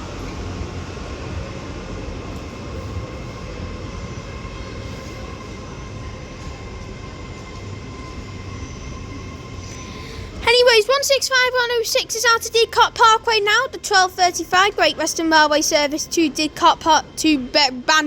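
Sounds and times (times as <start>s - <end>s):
diesel train rumble: 0.0s - 18.0s
faint high whine: 0.0s - 18.0s.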